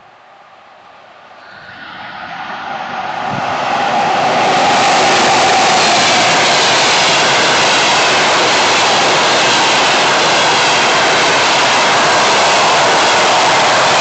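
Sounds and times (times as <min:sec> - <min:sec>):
train wheels rushing on rails: 0:01.4 - 0:14.0.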